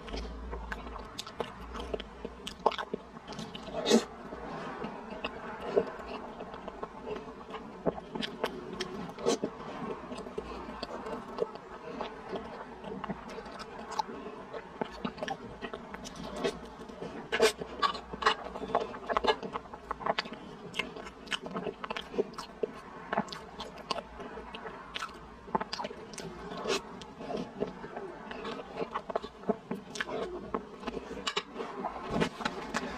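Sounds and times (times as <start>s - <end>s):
wet chewing and lip-smacking: 0.0s - 32.9s.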